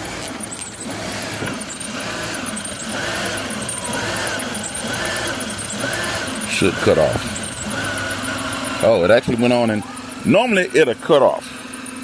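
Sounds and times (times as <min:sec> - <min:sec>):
accessory belt squeaking: 0:00.0 - 0:10.6
car engine idling: 0:00.0 - 0:12.0.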